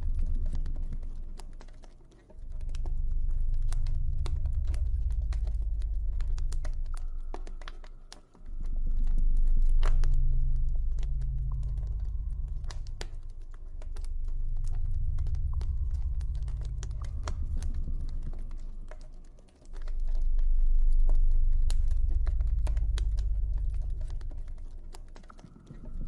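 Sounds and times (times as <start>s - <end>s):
deep low ambient drone: 0.0s - 26.0s.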